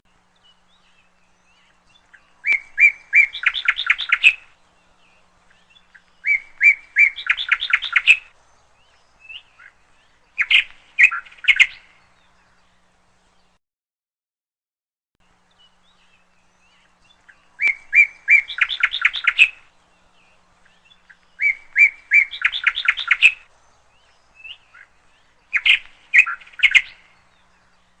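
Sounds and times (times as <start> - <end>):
songbird whistling and trilling: 0.4 - 12.6, 15.5 - 28.0.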